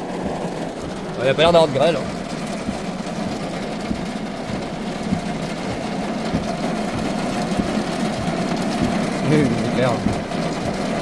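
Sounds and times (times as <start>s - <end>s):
heavy rain pouring: 0.0s - 11.0s
low hum: 0.0s - 11.0s.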